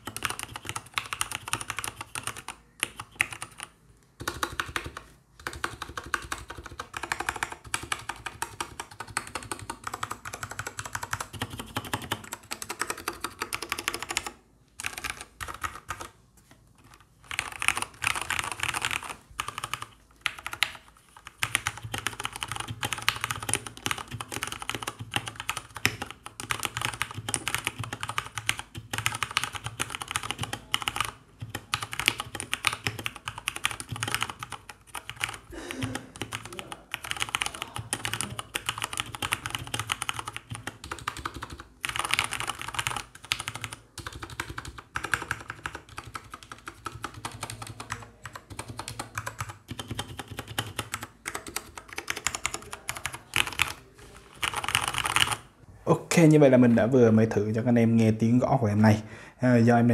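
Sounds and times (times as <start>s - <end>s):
fast mechanical keyboard typing: 0.0s - 16.2s, 16.8s - 55.5s.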